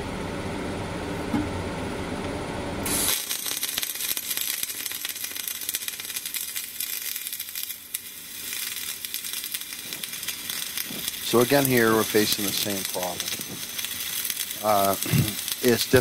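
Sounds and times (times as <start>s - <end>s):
arc welding crackle: 2.8s - 16.0s.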